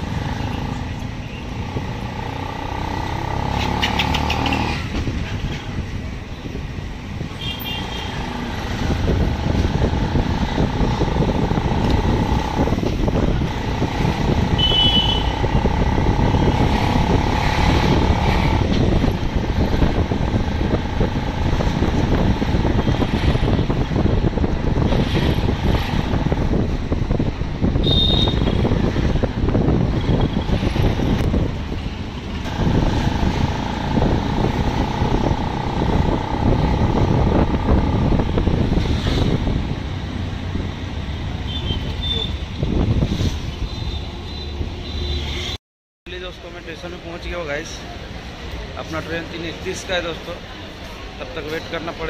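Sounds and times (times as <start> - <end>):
auto-rickshaw engine: 0.0 - 44.5.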